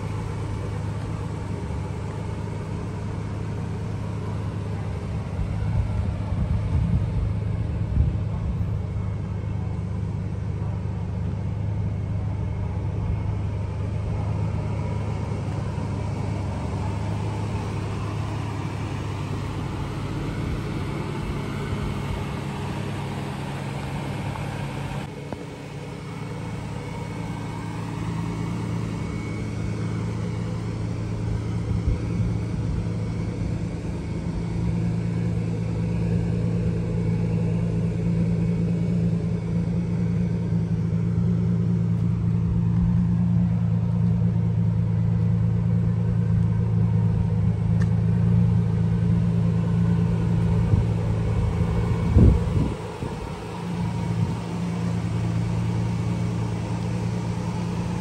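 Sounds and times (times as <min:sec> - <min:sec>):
pickup engine idling: 0:00.0 - 0:58.0.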